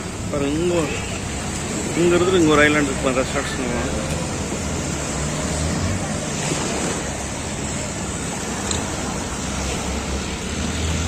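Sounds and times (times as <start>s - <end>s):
boat engine humming: 0.0s - 11.0s
rushing water: 0.0s - 11.0s
wind: 0.0s - 11.0s.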